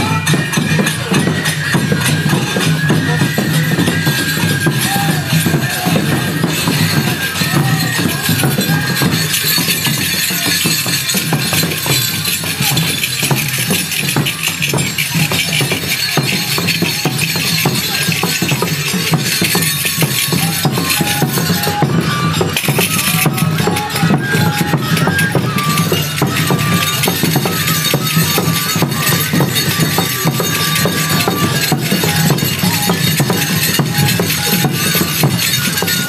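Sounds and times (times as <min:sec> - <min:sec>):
bamboo flute melody: 0:00.0 - 0:36.0
metallic jingling and clinking: 0:00.0 - 0:36.0.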